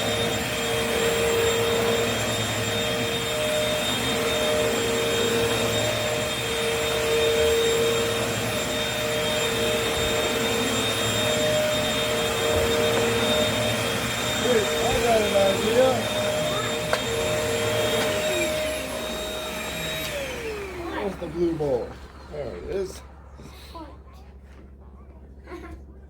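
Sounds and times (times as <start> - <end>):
vacuum cleaners running: 0.0 - 24.9.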